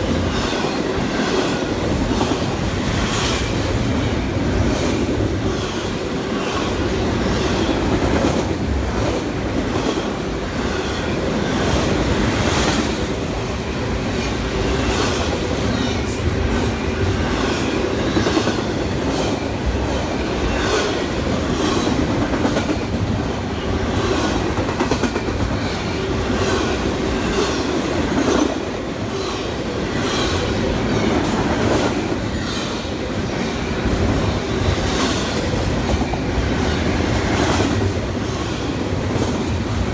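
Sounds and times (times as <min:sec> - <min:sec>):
train rumble and hum: 0:00.0 - 0:39.9.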